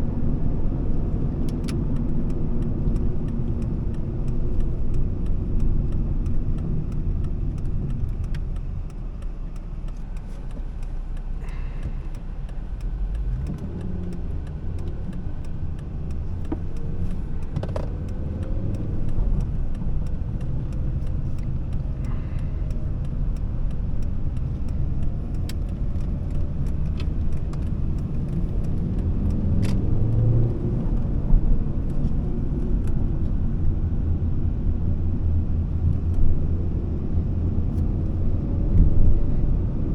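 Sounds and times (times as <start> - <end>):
car engine and tyre drone: 0.0 - 39.9.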